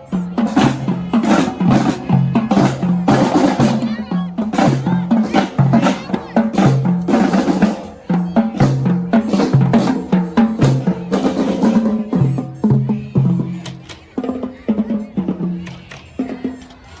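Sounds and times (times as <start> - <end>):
snare and bass drums: 0.0 - 16.8.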